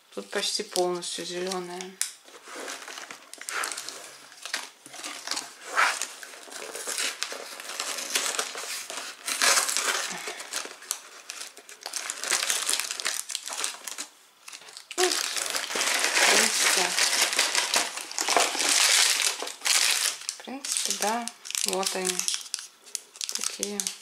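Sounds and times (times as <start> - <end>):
cardboard carton and packets crinkling: 0.4 - 24.0.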